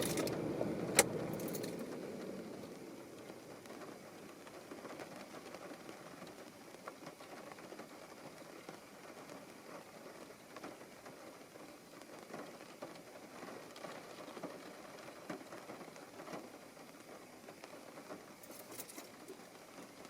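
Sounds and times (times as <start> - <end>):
rain on a car: 0.0 - 20.0.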